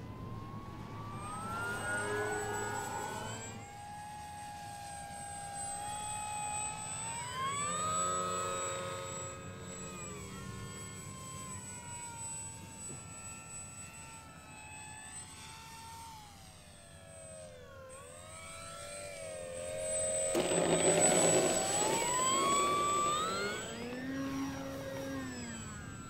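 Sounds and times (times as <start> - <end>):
model plane electric motor whine: 0.0 - 26.0.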